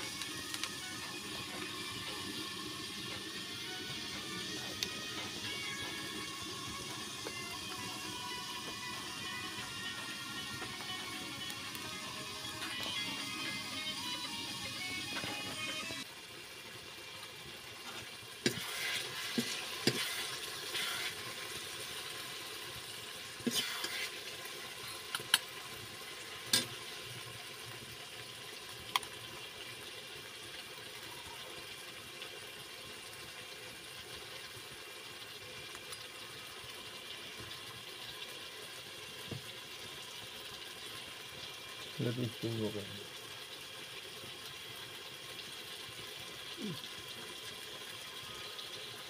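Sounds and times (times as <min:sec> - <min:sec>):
wok sizzling: 0:00.0 - 0:49.0.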